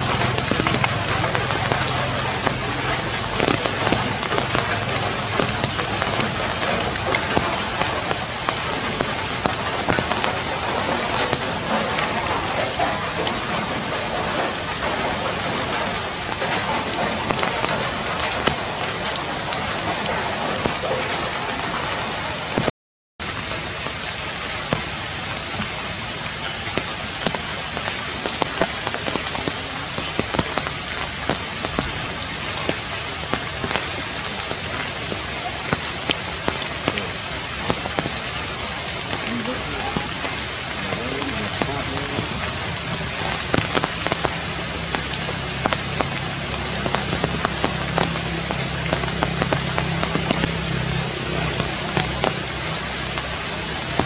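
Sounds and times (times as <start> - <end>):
drops ticking: 0.0 - 21.1, 26.6 - 54.0
rain on leaves: 0.0 - 54.0.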